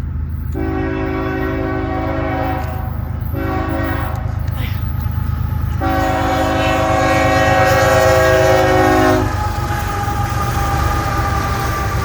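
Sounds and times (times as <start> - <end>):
train rumbling past: 0.0 - 12.0
locomotive air horn blast: 0.6 - 12.0.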